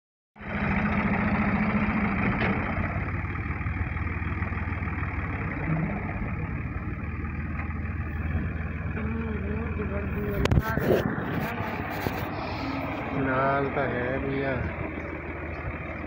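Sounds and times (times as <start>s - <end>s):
tractor diesel engine running: 0.4s - 16.0s.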